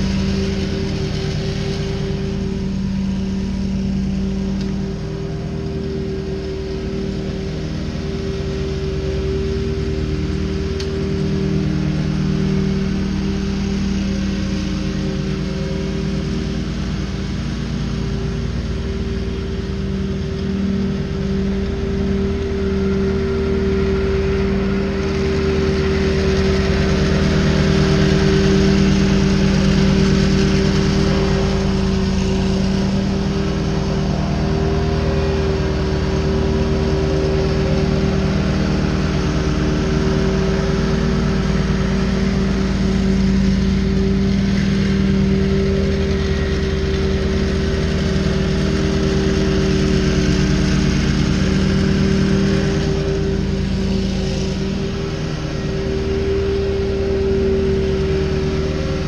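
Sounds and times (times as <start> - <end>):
riding mower engine running: 0.0 - 59.0.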